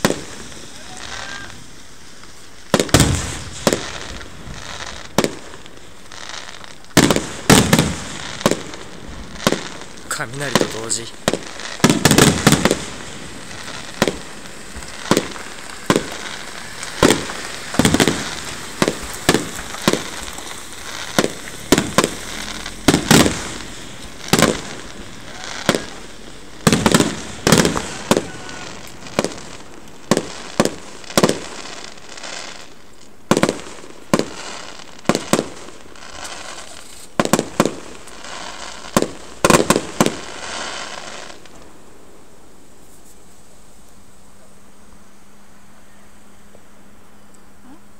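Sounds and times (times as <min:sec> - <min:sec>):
fireworks bangs: 0:00.0 - 0:43.3
fireworks crackling: 0:00.0 - 0:45.9.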